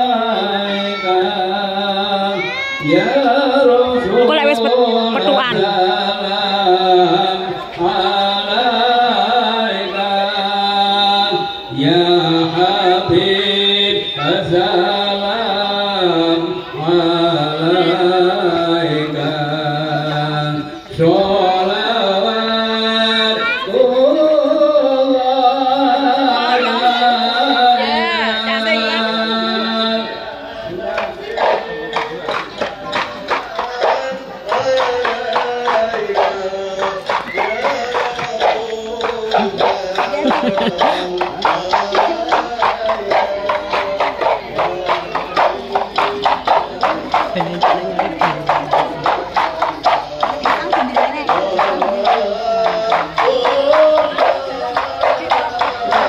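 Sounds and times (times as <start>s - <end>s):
person singing long notes: 0.0s - 56.0s.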